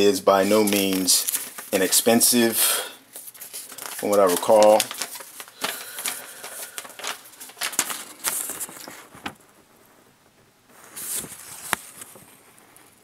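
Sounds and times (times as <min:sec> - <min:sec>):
paper rustling: 0:00.3 - 0:09.6, 0:10.7 - 0:13.0.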